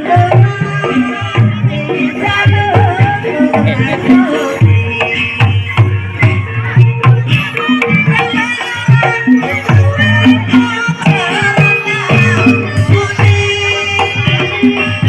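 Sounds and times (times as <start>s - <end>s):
hand drums driving rhythm: 0.0s - 15.0s
ringing pitched percussion: 0.2s - 15.0s
wavering melody line: 0.6s - 15.0s.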